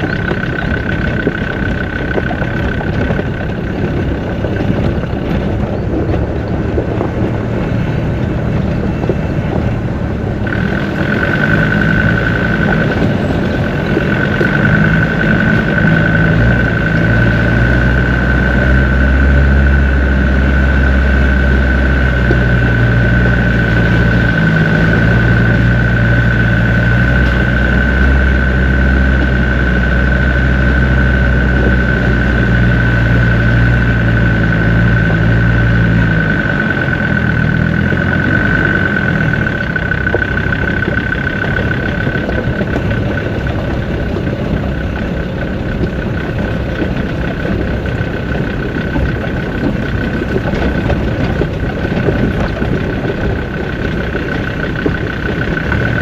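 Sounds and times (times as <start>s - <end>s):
diesel engine running: 0.0s - 56.0s
steady high whine: 0.0s - 56.0s
tyres on loose stones: 0.0s - 56.0s
vehicle body rattling: 0.0s - 56.0s.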